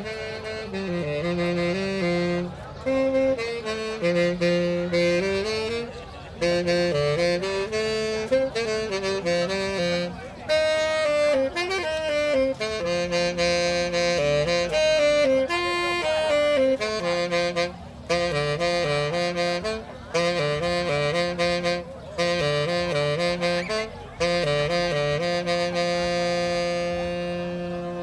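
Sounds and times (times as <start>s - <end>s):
saxophone playing: 0.0s - 28.0s.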